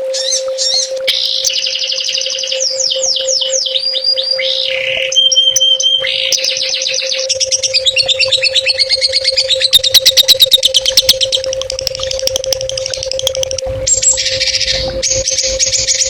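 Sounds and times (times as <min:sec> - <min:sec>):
faint hum: 0:00.0 - 0:16.0
songbird singing: 0:00.0 - 0:16.0.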